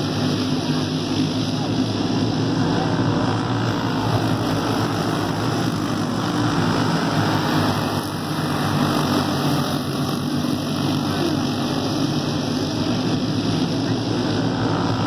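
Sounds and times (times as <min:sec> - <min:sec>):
go-kart engines droning: 0:00.0 - 0:15.0.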